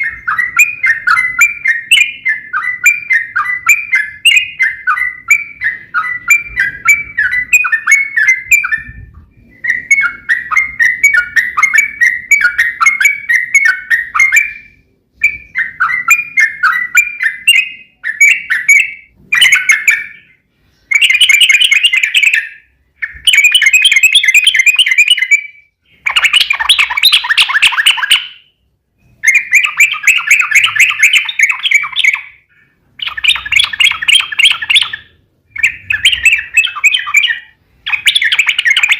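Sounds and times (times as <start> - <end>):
bird singing chattering trills: 0.0 - 38.9.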